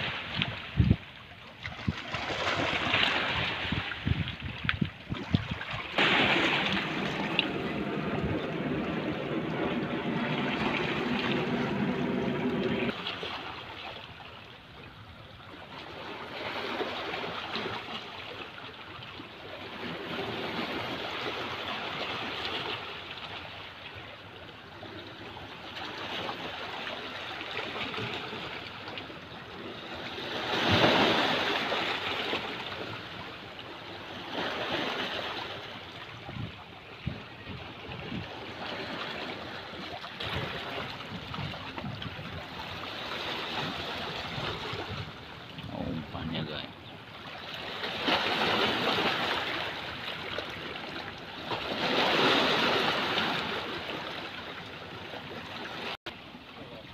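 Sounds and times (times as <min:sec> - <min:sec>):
waves splashing against rocks: 0:00.0 - 0:14.4, 0:15.6 - 0:24.4, 0:25.2 - 0:56.9.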